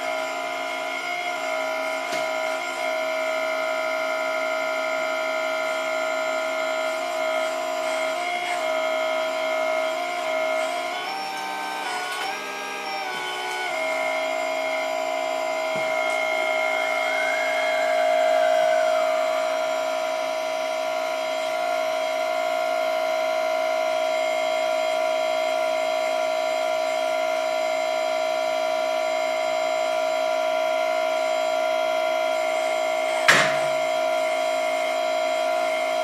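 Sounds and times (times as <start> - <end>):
hydraulic pump whining: 0.0 - 36.0.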